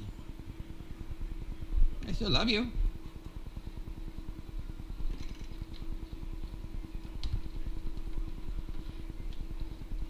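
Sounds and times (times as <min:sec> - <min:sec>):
low pulsing machine hum: 0:00.0 - 0:10.0.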